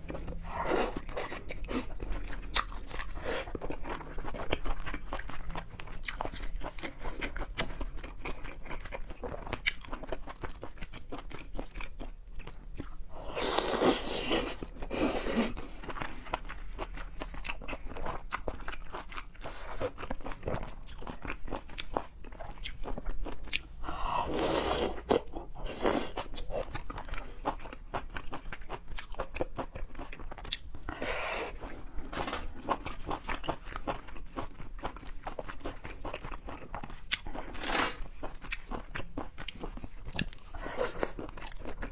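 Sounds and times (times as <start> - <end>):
chewing and crunching seafood: 0.0 - 41.9.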